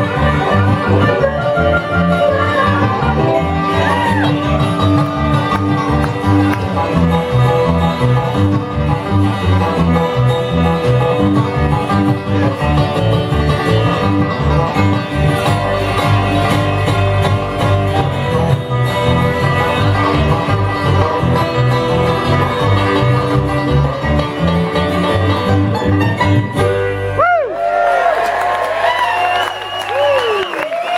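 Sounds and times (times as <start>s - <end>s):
plucked strings: 0.0s - 27.2s
bluegrass band playing: 0.0s - 28.2s
bass line: 0.0s - 29.0s.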